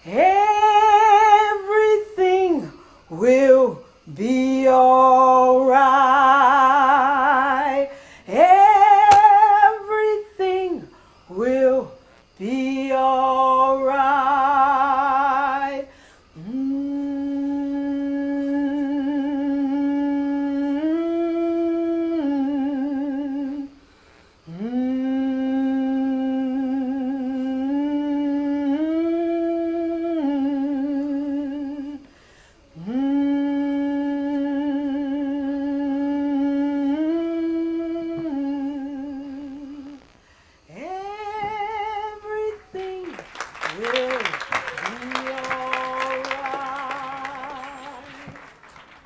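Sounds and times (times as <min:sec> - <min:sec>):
voices humming a slow melody: 0:00.0 - 0:49.0.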